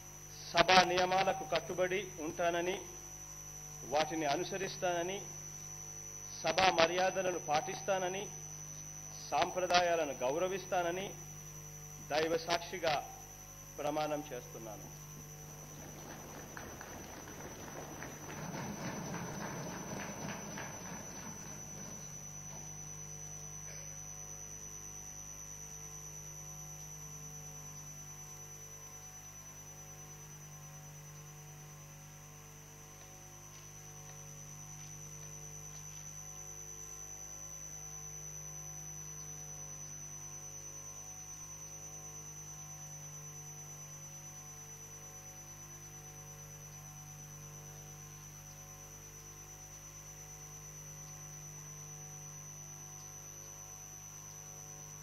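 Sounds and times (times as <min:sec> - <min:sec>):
electrical mains hum: 0:00.0 - 0:55.0
high-pitched whine: 0:00.0 - 0:55.0.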